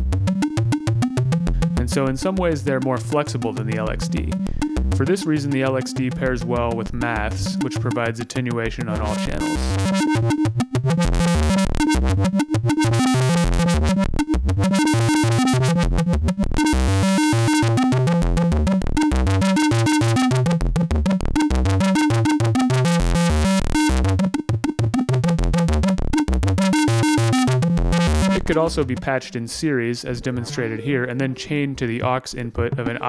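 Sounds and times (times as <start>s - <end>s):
synthesizer bass notes: 0.0s - 29.4s.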